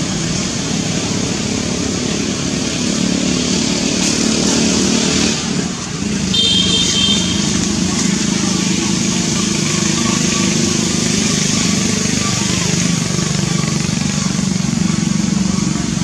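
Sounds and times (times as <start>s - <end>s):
motor traffic rumble: 0.0s - 16.0s.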